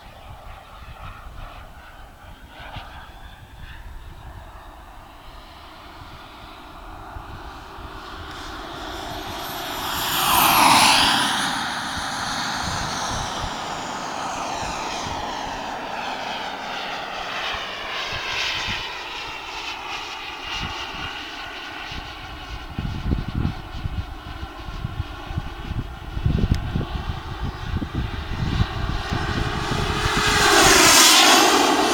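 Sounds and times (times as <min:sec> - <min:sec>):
jet turbine whine passing: 0:03.2 - 0:26.1, 0:26.9 - 0:31.9.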